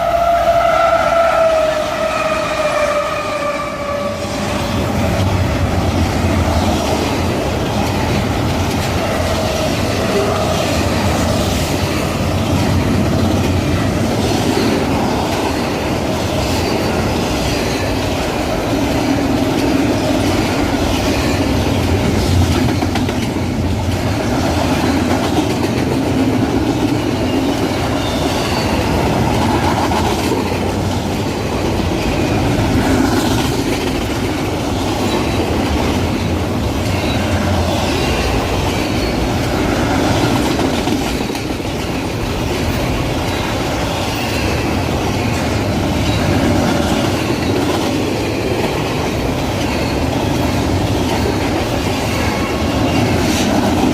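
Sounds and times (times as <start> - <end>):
freight train rumbling past: 0.0 - 53.9
wheels clacking over rail joints: 4.8 - 53.9.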